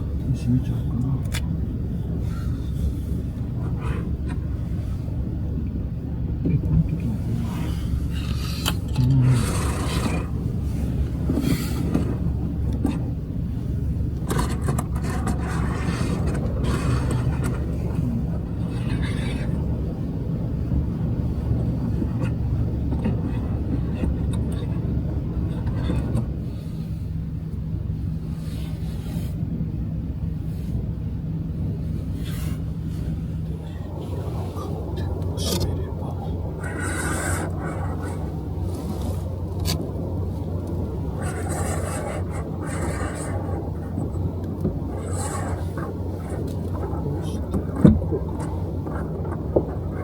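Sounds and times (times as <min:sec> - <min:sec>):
van engine and road noise: 0:00.0 - 0:50.0.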